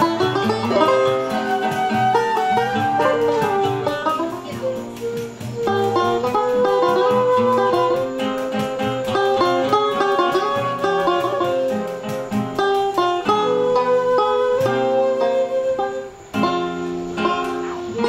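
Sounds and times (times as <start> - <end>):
acoustic guitar accompaniment: 0.0 - 18.0
banjo picking fast runs: 0.0 - 18.0
flute: 0.0 - 18.0.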